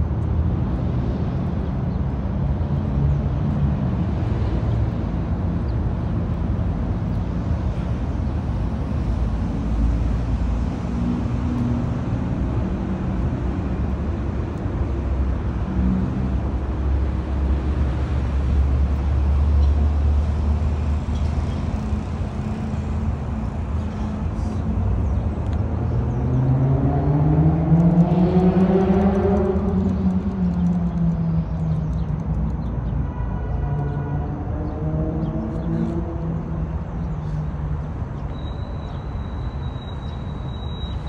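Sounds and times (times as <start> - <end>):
vehicle engine rumbling: 0.0 - 41.0.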